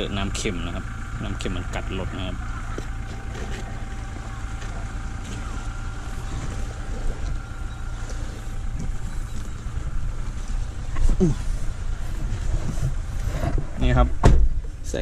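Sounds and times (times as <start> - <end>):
engine idling low rumble: 0.0 - 15.0
faint steady tone: 1.0 - 13.2.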